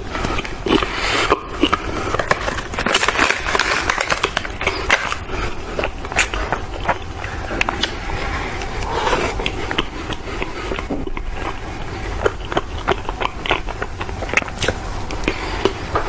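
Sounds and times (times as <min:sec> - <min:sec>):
chewing biscuit with mouth clicks: 0:00.0 - 0:16.0
low steady hum: 0:00.0 - 0:16.0.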